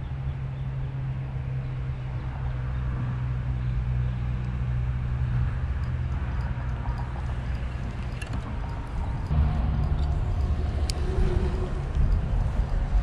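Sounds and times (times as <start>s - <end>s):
motor running with low hum: 0.0s - 13.0s.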